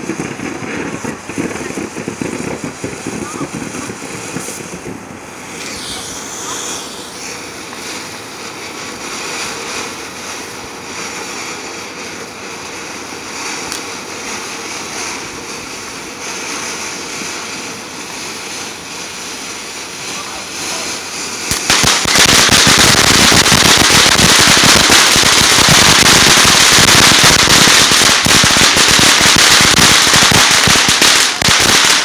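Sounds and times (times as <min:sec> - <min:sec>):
firework spraying sparks hiss: 0:00.0 - 0:32.0.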